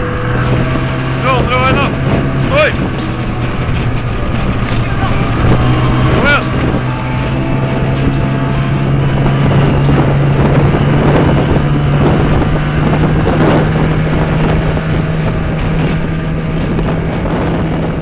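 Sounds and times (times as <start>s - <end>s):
boat engine running: 0.0s - 18.0s
wind buffeting microphone: 0.0s - 18.0s.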